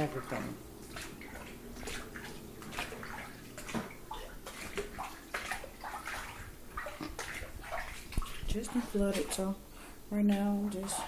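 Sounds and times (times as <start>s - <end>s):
water sloshing while wading: 0.0s - 11.0s.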